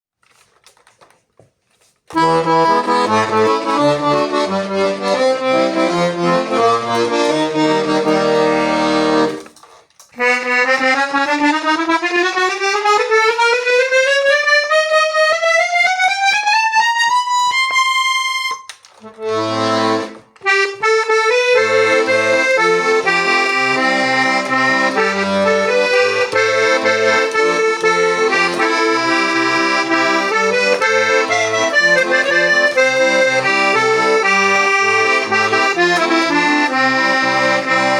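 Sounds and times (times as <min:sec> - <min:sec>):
piano accordion playing: 0:02.1 - 0:37.9.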